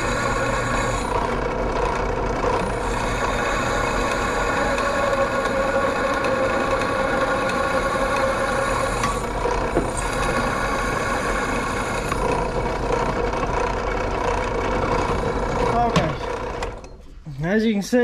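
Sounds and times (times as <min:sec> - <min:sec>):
drill bit boring into steel: 0:00.0 - 0:16.8
drill press motor humming: 0:00.0 - 0:17.2.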